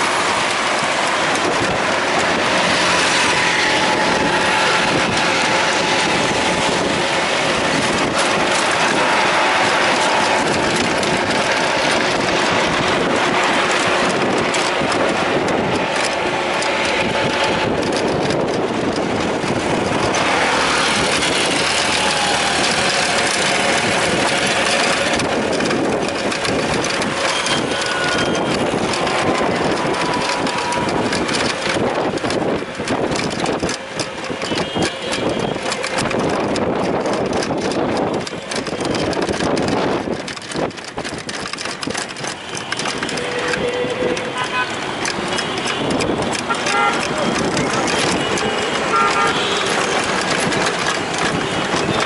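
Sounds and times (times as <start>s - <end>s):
rickshaw engine: 0.0s - 52.0s.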